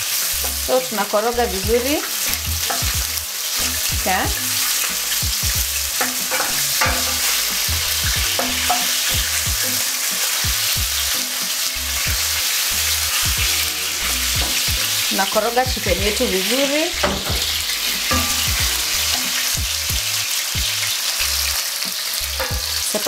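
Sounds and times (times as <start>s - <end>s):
chicken sizzling in hot oil: 0.0s - 23.0s
wooden spoon scraping and knocking pan: 1.5s - 20.1s, 21.9s - 23.0s.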